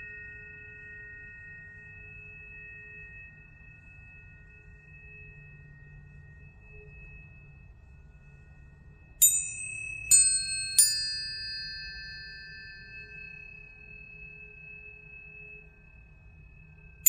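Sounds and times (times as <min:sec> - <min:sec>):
tuning forks ringing: 0:00.0 - 0:17.0.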